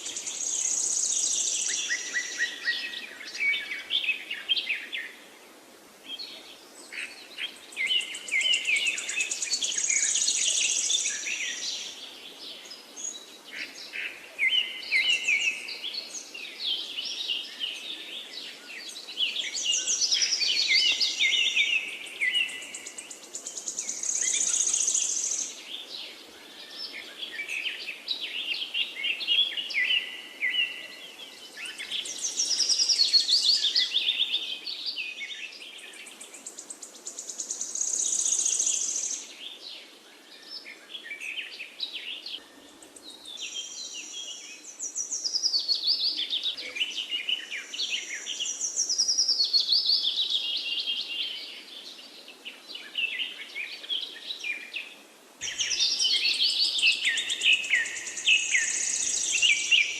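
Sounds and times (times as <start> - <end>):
faint steady background hiss: 0.0 - 59.9
songbirds singing and chirping: 0.0 - 59.9.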